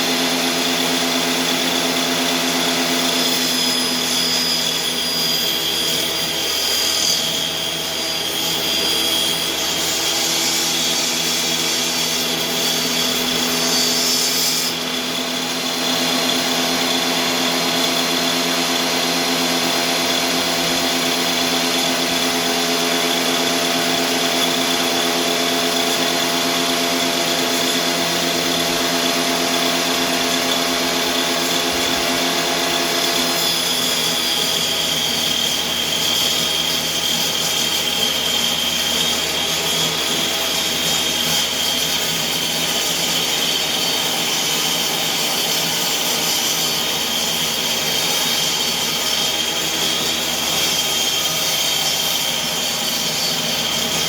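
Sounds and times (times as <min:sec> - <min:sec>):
electric power tool motor whining: 0:00.0 - 0:54.0.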